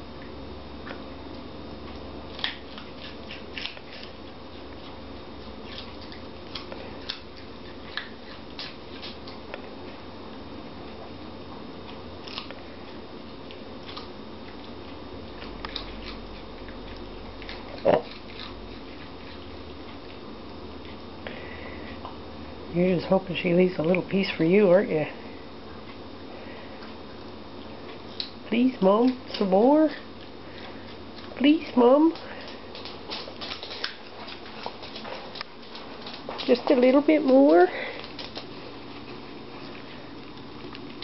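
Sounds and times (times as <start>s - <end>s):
dog crunching a carrot: 0.2s - 22.2s, 25.7s - 41.0s.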